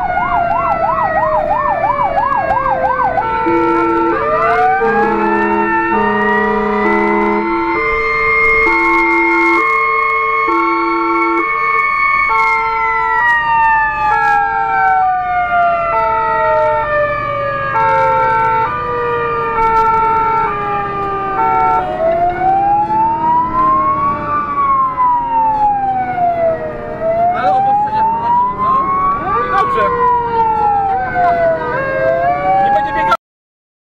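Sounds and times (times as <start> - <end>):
held siren tone sliding down: 0.0 - 33.2
siren wailing: 0.0 - 33.2
two-tone siren: 0.0 - 33.2.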